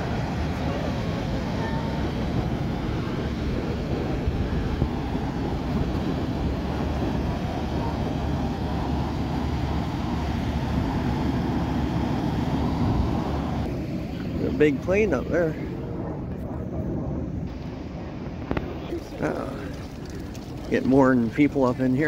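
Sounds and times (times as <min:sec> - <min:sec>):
airplane flying overhead: 0:00.0 - 0:22.0.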